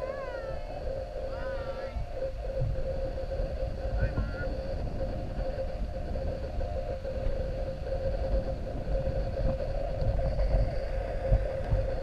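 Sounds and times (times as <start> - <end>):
constant-pitch hum: 0.0 - 12.0
wind rumbling on microphone: 0.0 - 12.0.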